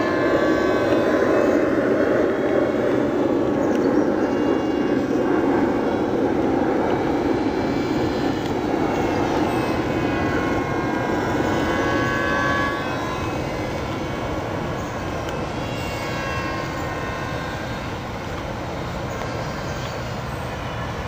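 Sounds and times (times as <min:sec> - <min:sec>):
model airplane motors whining: 0:00.0 - 0:21.0
wind on microphone: 0:00.0 - 0:21.0.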